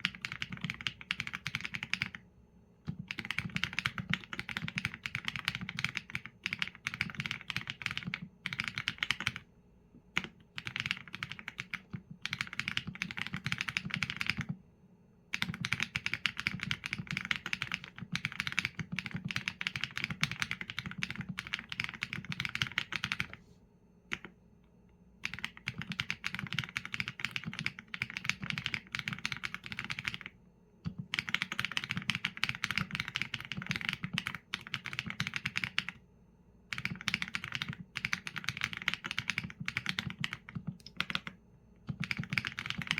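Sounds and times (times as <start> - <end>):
fast typing on mechanical keyboard: 0.0 - 2.2, 2.9 - 9.4, 10.2 - 14.6, 15.3 - 23.4, 25.2 - 36.0, 36.7 - 42.9.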